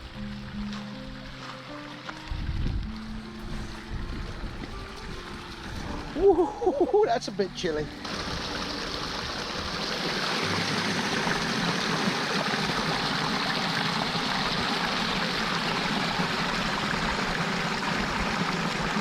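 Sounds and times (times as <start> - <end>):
creek water rushing and babbling: 0.0 - 19.0.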